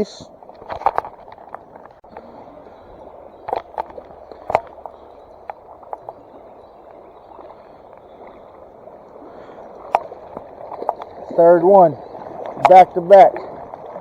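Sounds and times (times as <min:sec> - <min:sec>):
flowing stream water: 0:00.0 - 0:14.0.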